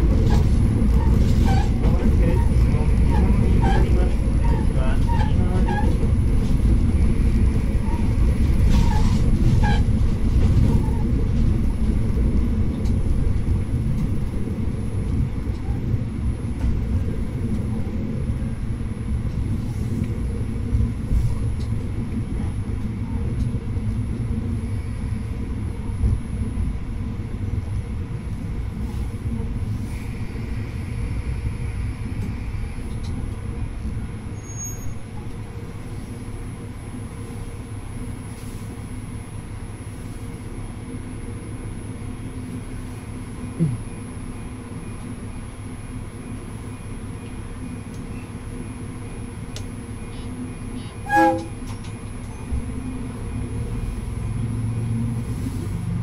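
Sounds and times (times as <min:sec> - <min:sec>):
railcar engine and wheels rumble: 0:00.0 - 0:56.0.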